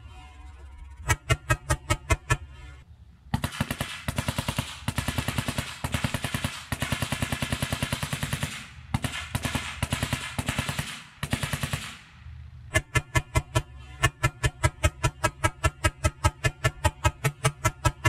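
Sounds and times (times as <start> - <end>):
pellet gun firing rapid bursts: 1.0 - 2.4, 3.3 - 18.0.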